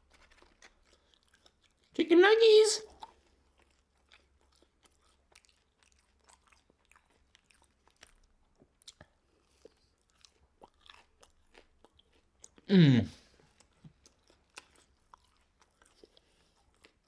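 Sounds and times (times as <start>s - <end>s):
chewing with mouth clicks: 0.0s - 1.9s, 2.9s - 12.7s, 13.4s - 17.0s.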